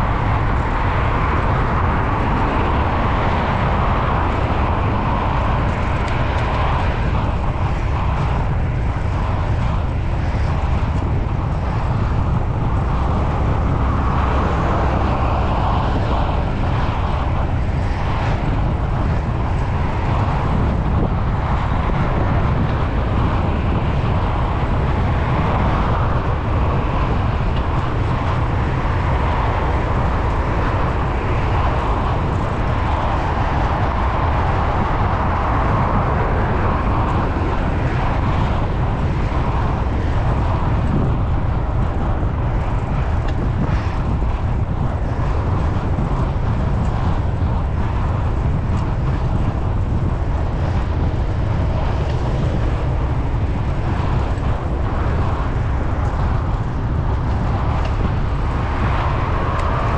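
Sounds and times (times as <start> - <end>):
bike tyres rolling on asphalt: 0.0 - 59.9
wind rushing over microphone: 0.0 - 59.9.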